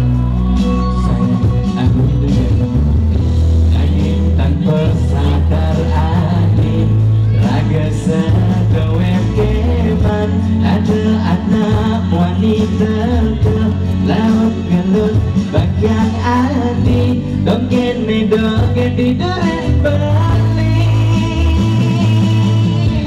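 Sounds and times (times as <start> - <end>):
amplified band music: 0.0 - 23.0
man singing into a microphone: 0.0 - 23.0.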